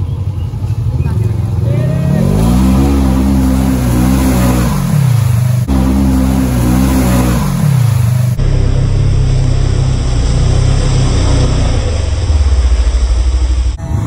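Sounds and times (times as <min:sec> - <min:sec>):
utility vehicle engine revving: 0:00.0 - 0:14.0.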